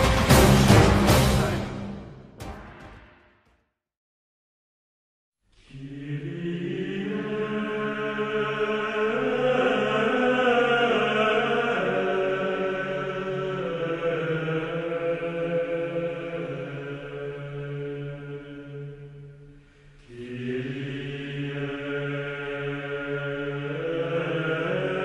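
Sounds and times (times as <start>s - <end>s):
choral chanting: 0.0s - 2.0s, 5.6s - 25.0s.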